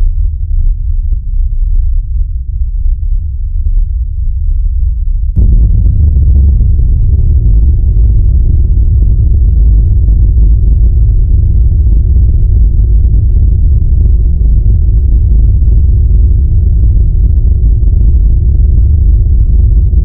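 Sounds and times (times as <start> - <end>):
distorted low rumble: 0.0 - 20.0.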